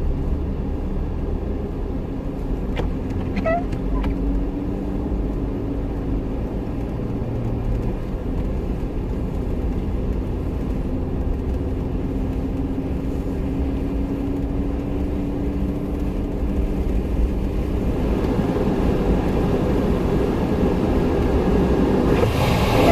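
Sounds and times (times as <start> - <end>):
car engine droning rumble: 0.0 - 22.9.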